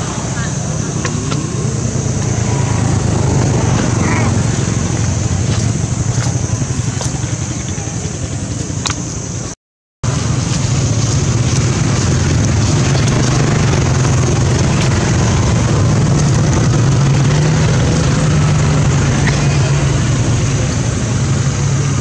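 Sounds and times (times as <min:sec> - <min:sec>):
low motor drone: 0:00.0 - 0:22.0.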